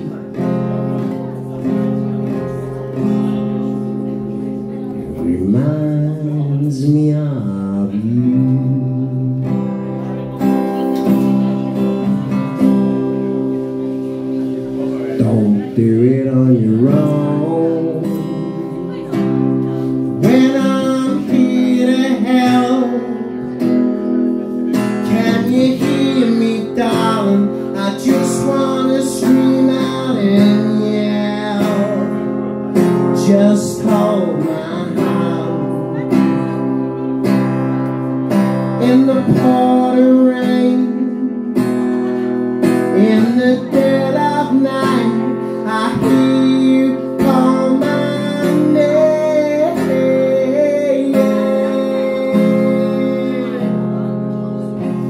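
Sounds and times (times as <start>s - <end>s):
man singing: 0.0s - 10.8s, 11.7s - 55.0s
acoustic guitar strumming: 0.0s - 55.0s.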